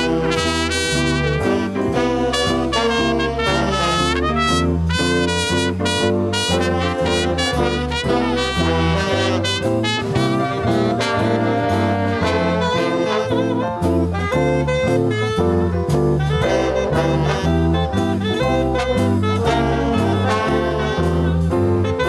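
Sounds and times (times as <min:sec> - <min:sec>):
swing band music: 0:00.0 - 0:22.0.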